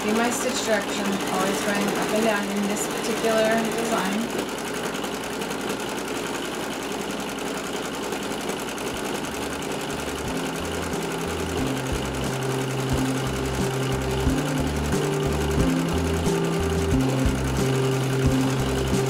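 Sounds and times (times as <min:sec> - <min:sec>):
sewing machine stitching: 0:00.0 - 0:19.0.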